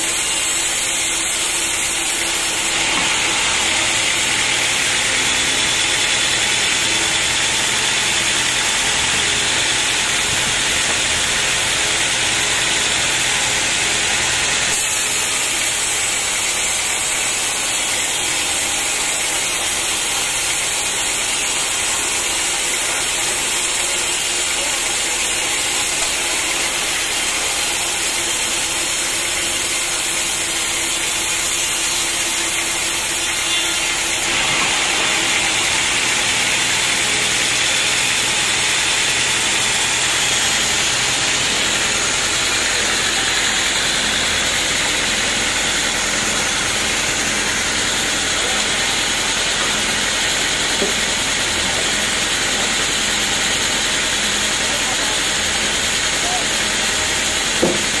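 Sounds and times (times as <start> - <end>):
machine motor running: 0.0 - 58.0
saw blade cutting log: 0.0 - 58.0.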